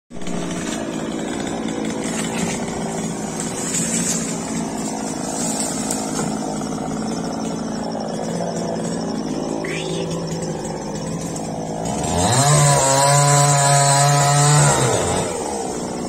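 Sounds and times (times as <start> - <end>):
chainsaw engine running: 0.1 - 16.0.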